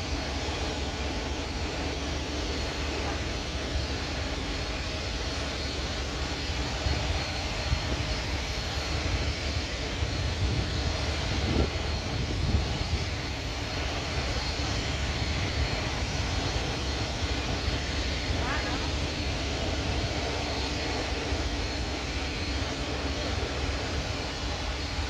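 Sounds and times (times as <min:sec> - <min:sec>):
faint high engine whine: 0:00.0 - 0:25.0
jet engines rumbling at taxi power: 0:00.0 - 0:25.0.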